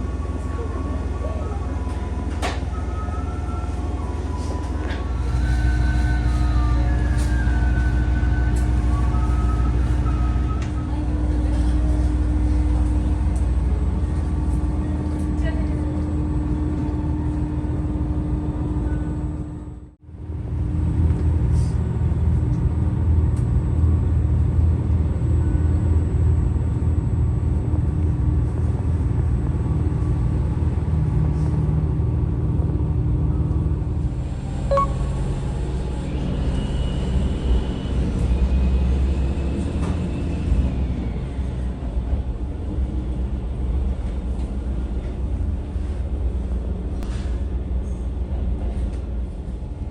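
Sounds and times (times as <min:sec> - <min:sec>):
diesel railcar rumble: 0:00.0 - 0:49.9.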